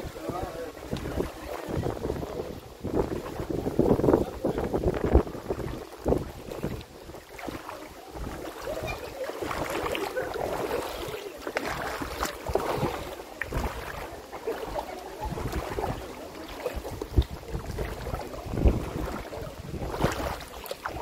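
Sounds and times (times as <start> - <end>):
river water rushing over rocks: 0.0 - 21.0
wind buffeting microphone: 0.0 - 21.0.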